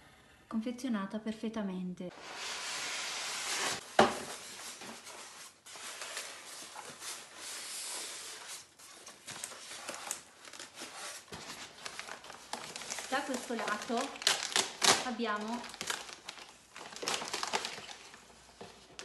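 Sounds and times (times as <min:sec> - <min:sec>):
foam and plastic wrap rustling: 0:02.2 - 0:19.0.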